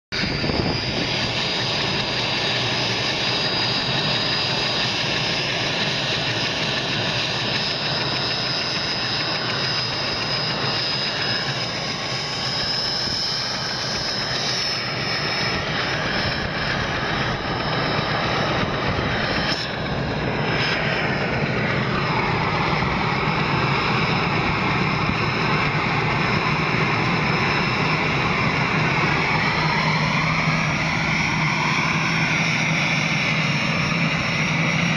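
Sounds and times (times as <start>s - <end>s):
helicopter engines and rotor: 0.1s - 34.9s
high turbine whine: 0.1s - 34.9s.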